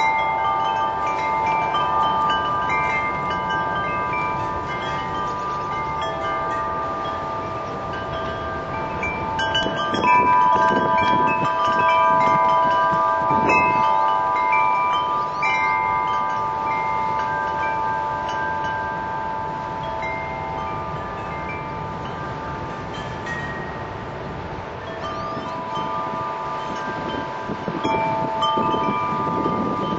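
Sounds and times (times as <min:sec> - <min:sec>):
wind buffeting microphone: 0:00.0 - 0:29.9
wind chimes ringing: 0:00.0 - 0:29.9.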